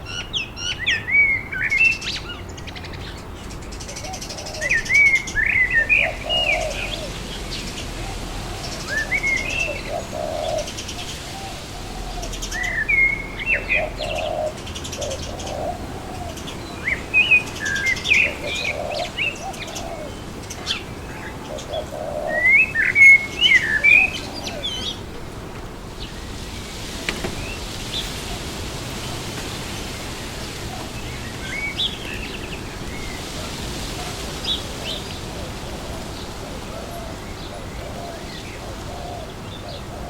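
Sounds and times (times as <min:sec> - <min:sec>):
birds chirping and calling: 0:00.0 - 0:40.0
wind through trees: 0:00.0 - 0:40.0.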